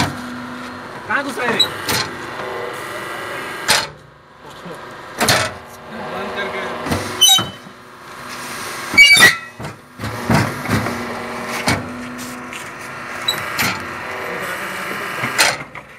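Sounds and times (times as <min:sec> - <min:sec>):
machine humming: 0:00.0 - 0:09.0, 0:09.6 - 0:15.4.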